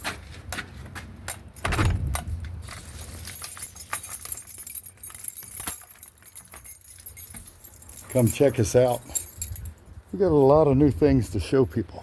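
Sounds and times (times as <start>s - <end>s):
metallic clinking and jingling: 0.0s - 10.6s.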